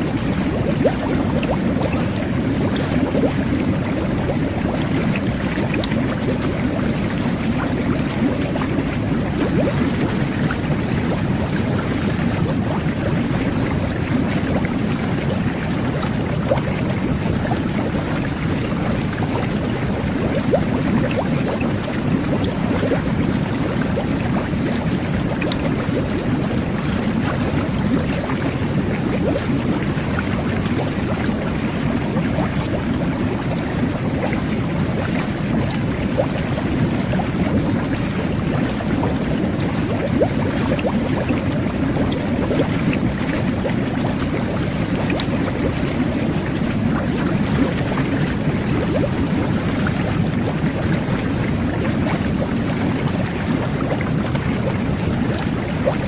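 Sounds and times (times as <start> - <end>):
water jets churning and bubbling: 0.0 - 56.0.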